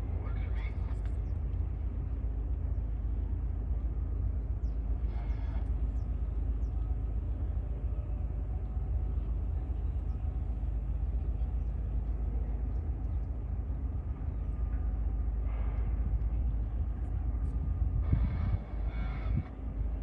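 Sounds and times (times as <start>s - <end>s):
boat diesel engine droning: 0.0s - 20.0s.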